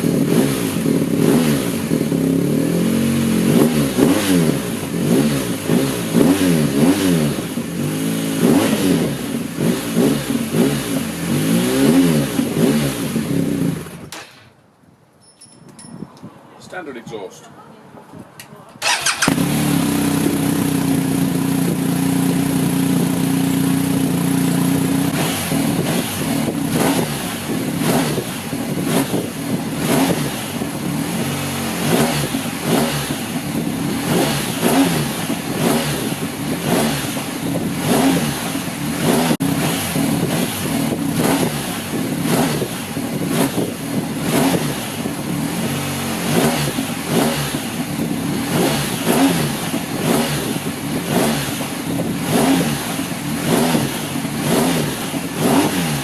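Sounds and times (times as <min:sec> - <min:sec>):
motorcycle engine idling and revving: 0:00.0 - 0:14.4, 0:18.8 - 0:56.0.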